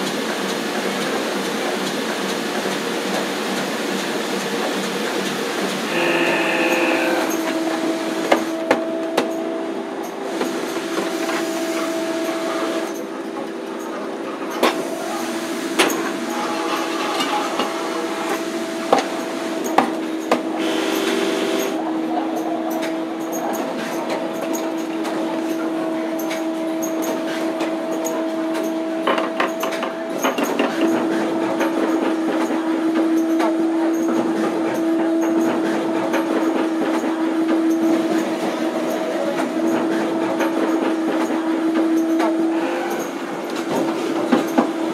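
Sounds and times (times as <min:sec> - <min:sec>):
machinery humming: 0:02.4 - 0:29.0, 0:29.8 - 0:44.9.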